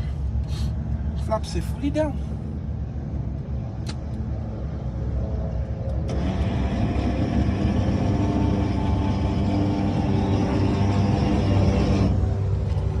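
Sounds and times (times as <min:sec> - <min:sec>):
aircraft engine running: 0:02.2 - 0:13.0.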